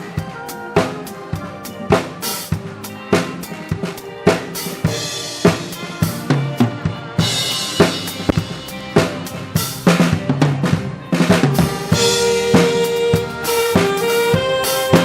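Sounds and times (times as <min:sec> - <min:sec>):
drum kit beat: 0:00.0 - 0:15.0
live band playing dance music: 0:00.0 - 0:15.0.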